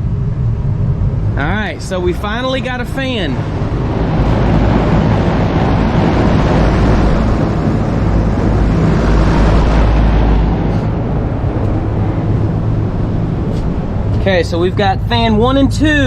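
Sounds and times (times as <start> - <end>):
condenser fan rushing air: 0.0 - 16.0.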